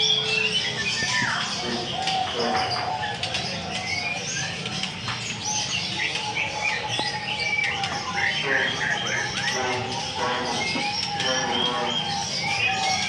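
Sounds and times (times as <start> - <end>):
caged birds chirping and whistling: 0.0 - 13.0.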